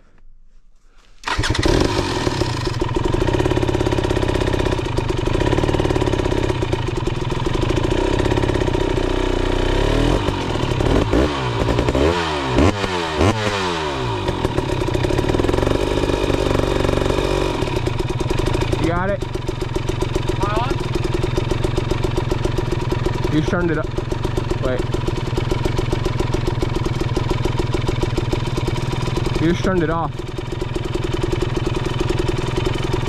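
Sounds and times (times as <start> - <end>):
dirt bike engine revving: 1.2 - 33.0.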